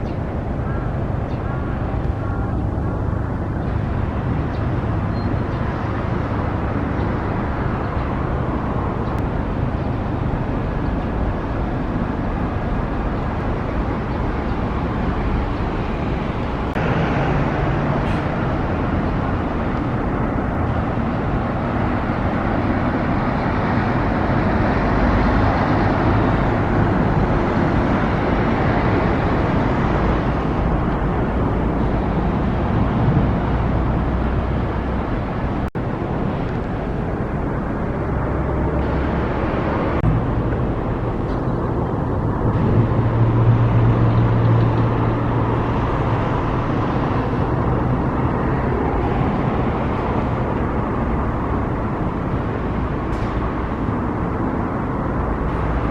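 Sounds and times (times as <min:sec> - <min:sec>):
road traffic noise: 0:00.0 - 0:55.9.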